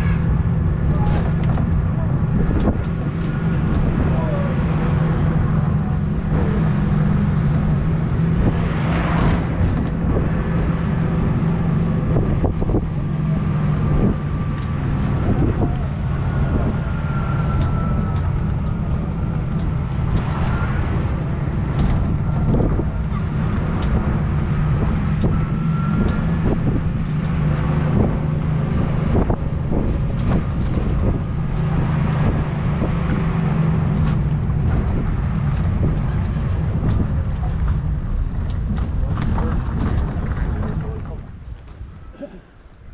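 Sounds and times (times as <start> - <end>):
vehicle engine drone: 0.0 - 42.9.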